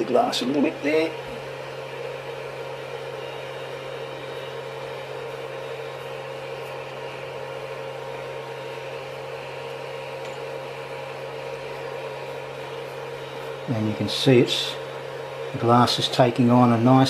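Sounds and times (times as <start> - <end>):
cooling fans whirring: 0.0 - 17.0.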